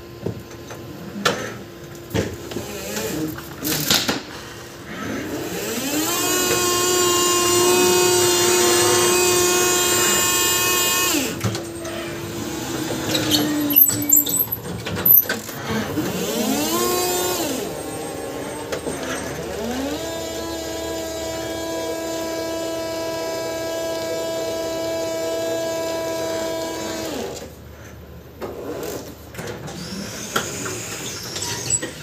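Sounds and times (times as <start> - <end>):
hydraulic pump motor whining: 0.9 - 27.6, 28.7 - 32.0.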